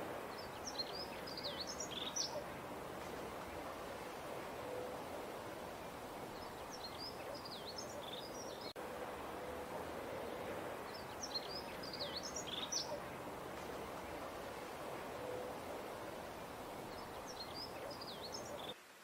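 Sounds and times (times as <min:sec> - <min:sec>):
songbird chirping: 0:00.0 - 0:18.8
steady background hiss: 0:00.0 - 0:19.0.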